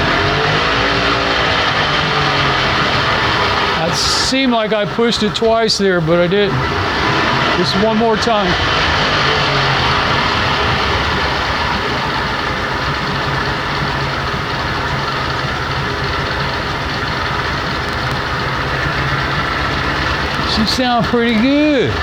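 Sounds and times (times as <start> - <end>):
outboard motor idling: 0.0 - 22.0.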